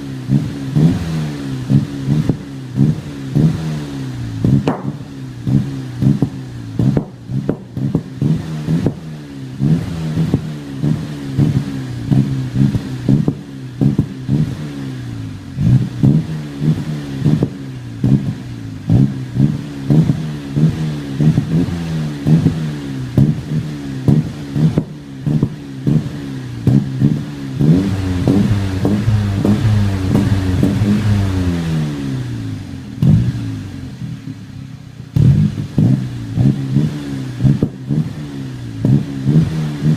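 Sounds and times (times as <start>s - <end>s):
car engine running: 0.0s - 39.9s
sharp exhaust pops: 1.7s - 3.6s, 4.4s - 14.7s, 15.6s - 31.7s, 33.0s - 33.5s, 35.1s - 39.9s.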